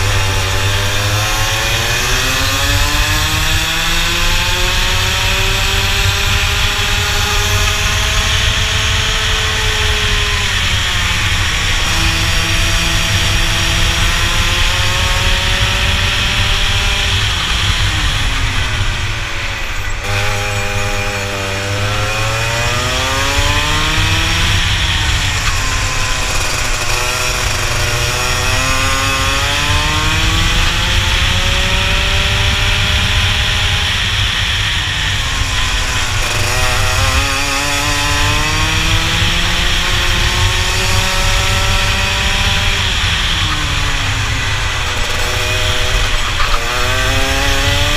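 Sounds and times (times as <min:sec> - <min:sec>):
kart engine racing: 0:00.0 - 0:47.9.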